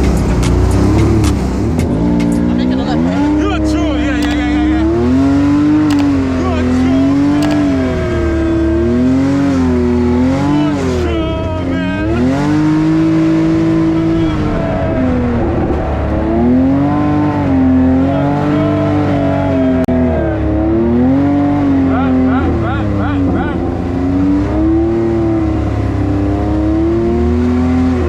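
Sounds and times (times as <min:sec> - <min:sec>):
low engine drone: 0:00.0 - 0:27.6
atv engine revving: 0:00.0 - 0:28.0.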